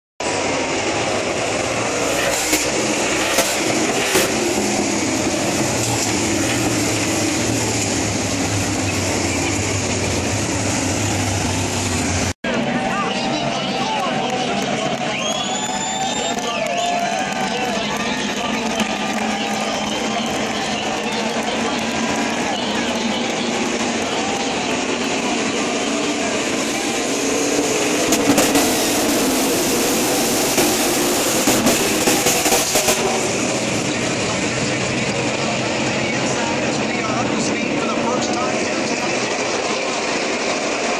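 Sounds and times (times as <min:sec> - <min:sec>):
race car engines droning: 0:00.2 - 0:40.9.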